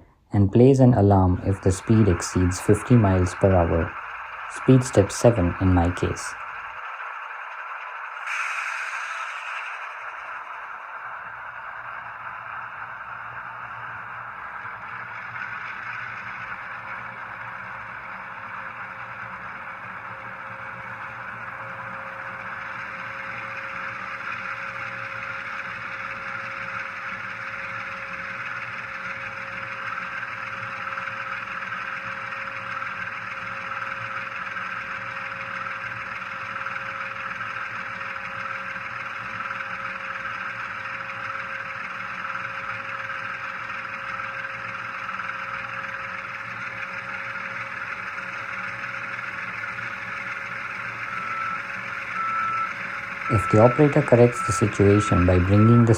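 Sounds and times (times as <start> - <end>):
model diesel engine hum: 0.0 - 55.9.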